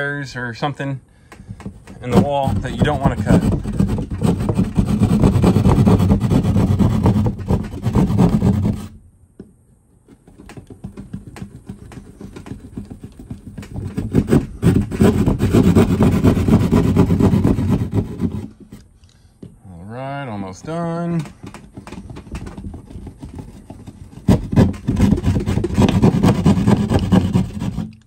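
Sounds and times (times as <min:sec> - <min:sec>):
hand saw rasping through drywall: 0:01.4 - 0:09.0, 0:10.1 - 0:18.9, 0:20.8 - 0:28.0.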